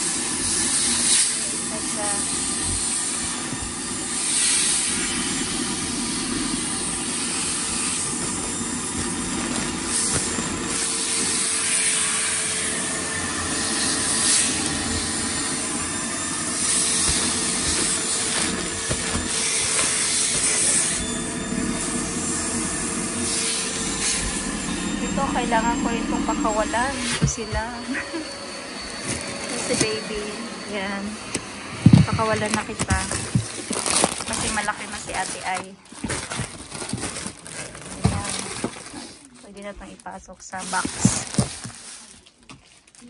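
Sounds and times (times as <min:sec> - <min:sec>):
vacuum cleaner sucking air: 0:00.0 - 0:42.1.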